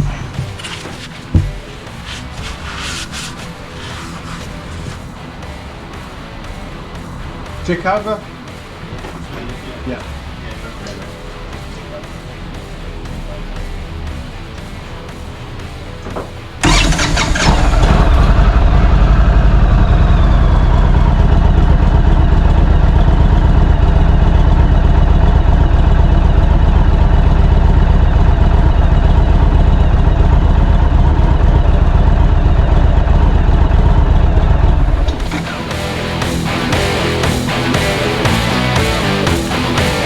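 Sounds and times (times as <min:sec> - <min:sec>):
motorcycle engine starting and idling: 0:00.0 - 0:40.0.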